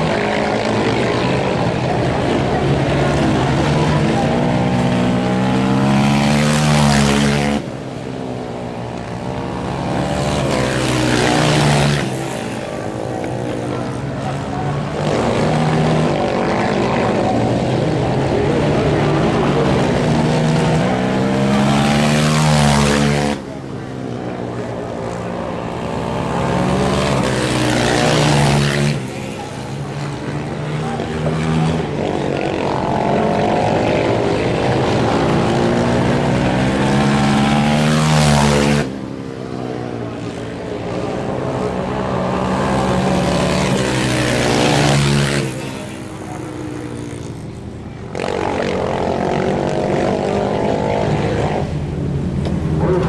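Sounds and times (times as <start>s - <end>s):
quad bike engines revving: 0.0s - 53.0s.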